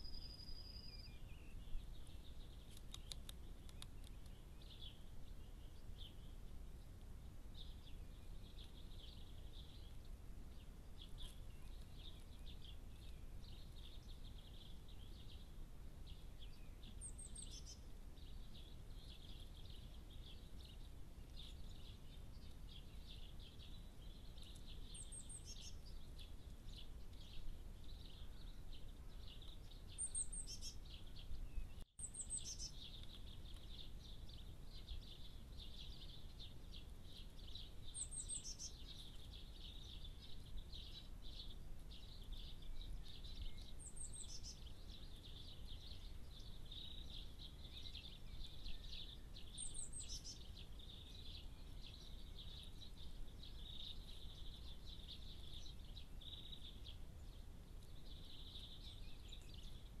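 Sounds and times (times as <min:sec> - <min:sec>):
songbirds twittering chorus: 0:00.0 - 1:00.0.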